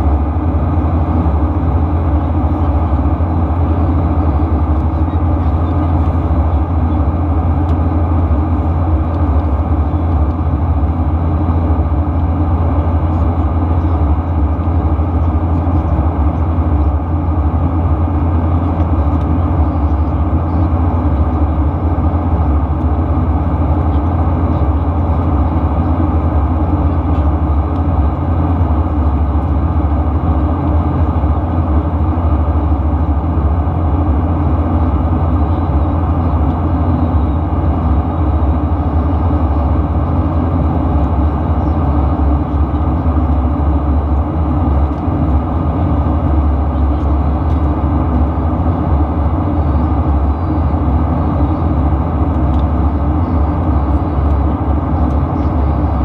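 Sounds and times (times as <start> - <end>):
airplane cabin hum: 0.0 - 56.0.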